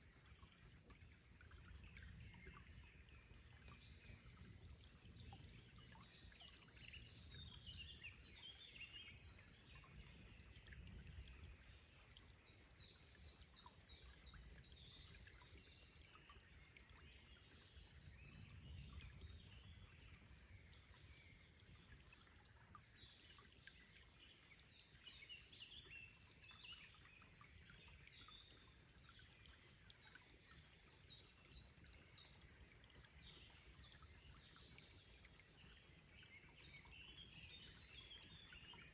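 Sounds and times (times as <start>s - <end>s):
running stream: 0.0s - 38.9s.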